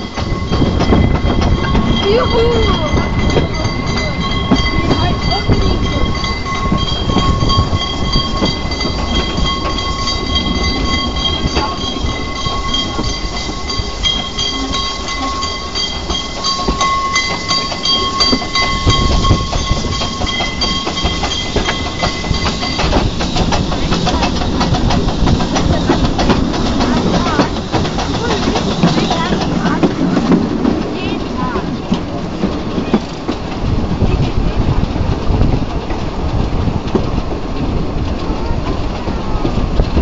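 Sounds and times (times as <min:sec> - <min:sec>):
steam locomotive running gear clatter: 0:00.0 - 0:40.0
steam noise: 0:00.0 - 0:40.0.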